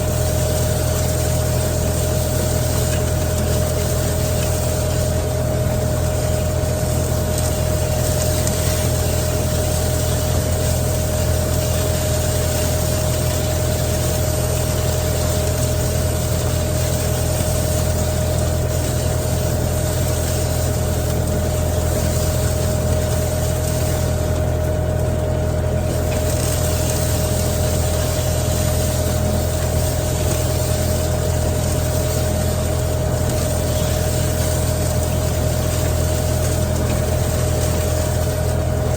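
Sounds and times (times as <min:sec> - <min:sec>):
engine low drone with whine: 0:00.0 - 0:38.9.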